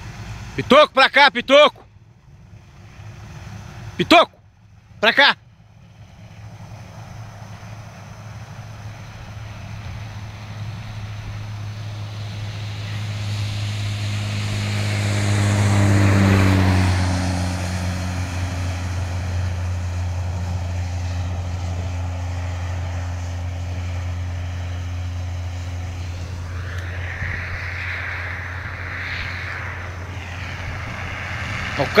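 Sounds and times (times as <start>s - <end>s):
heavy truck passing: 0.0s - 32.0s.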